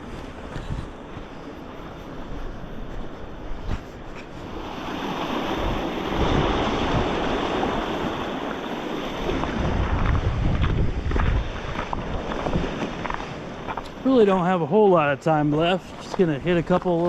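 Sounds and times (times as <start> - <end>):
steady rushing noise: 0.0 - 17.0
wind gusting against microphone: 0.0 - 17.0.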